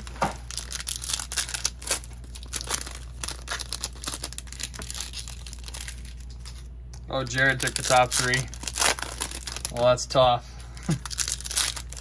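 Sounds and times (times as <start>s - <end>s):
foil wrappers crinkling and tearing: 0.0s - 10.0s, 10.7s - 12.0s.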